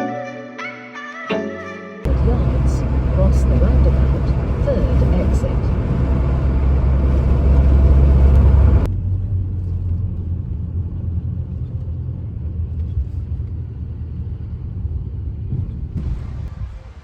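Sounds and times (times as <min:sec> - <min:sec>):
car engine and road rumble: 0:02.1 - 0:17.0.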